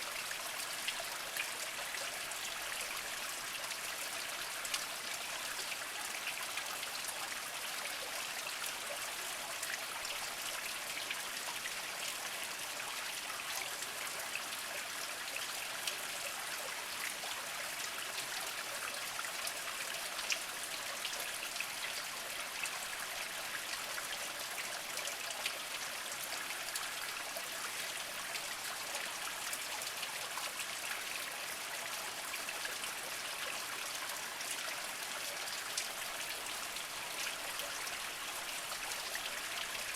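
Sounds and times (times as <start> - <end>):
water drips and splashes: 0.0 - 39.9.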